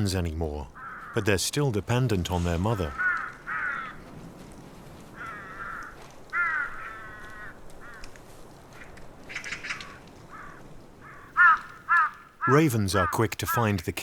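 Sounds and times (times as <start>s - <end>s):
ravens croaking: 0.0s - 14.0s.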